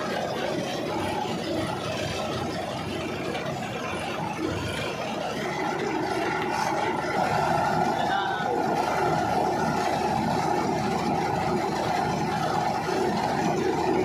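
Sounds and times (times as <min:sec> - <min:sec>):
tractor engine and reaper din: 0:00.0 - 0:14.0.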